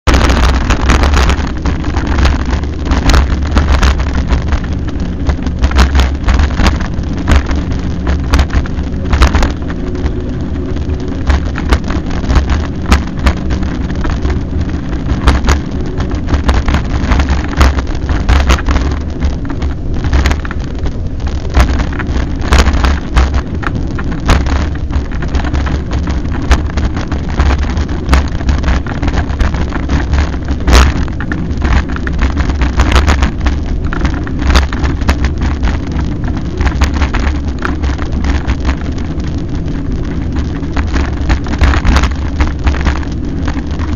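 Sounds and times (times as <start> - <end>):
wind buffeting microphone: 0.0 - 43.9
bike knocking and rattling: 0.1 - 43.9.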